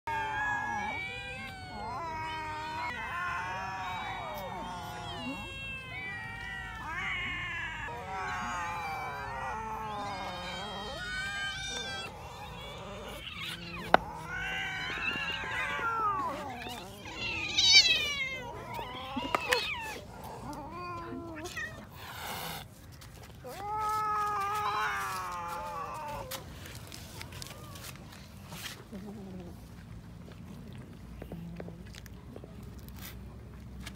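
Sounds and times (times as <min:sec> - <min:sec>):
cats meowing: 0:00.1 - 0:33.1.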